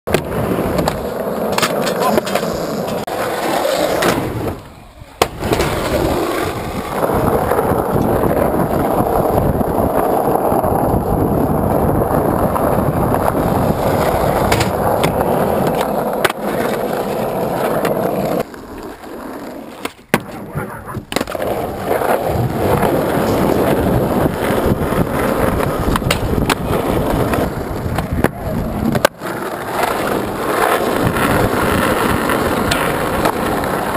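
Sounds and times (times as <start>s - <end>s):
skateboard clacks: 0.1s - 33.9s
skateboard wheels rolling: 0.1s - 33.9s.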